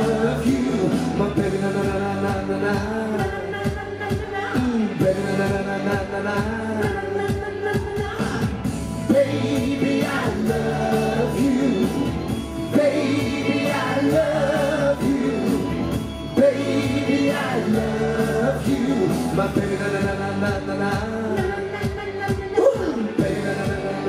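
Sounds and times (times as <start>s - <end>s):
live pop music with singers: 0.0s - 24.0s.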